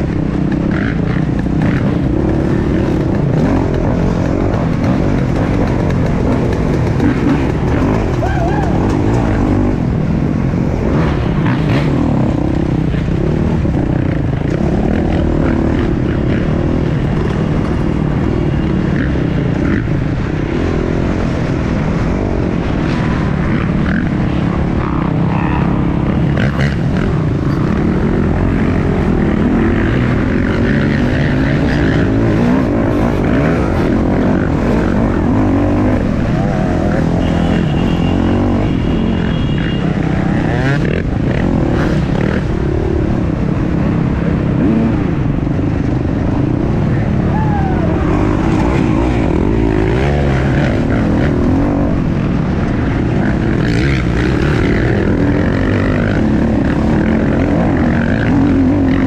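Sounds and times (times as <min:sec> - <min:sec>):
dirt bike engine revving: 0:00.1 - 0:59.0.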